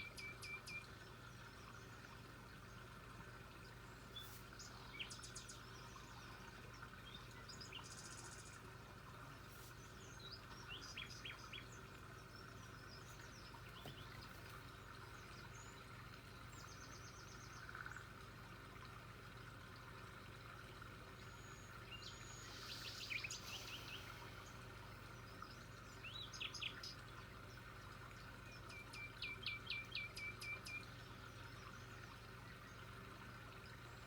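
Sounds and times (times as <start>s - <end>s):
faint birdsong chirps: 0.0s - 34.0s
low background hum: 0.0s - 34.0s.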